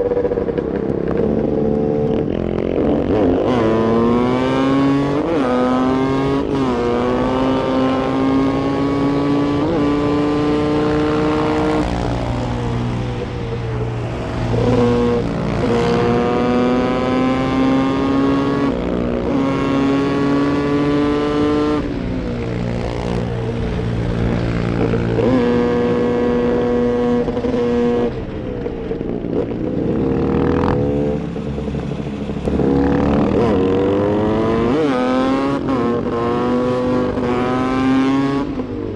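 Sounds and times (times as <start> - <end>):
two-stroke motorcycle engine revving: 0.0 - 28.4, 29.0 - 38.9.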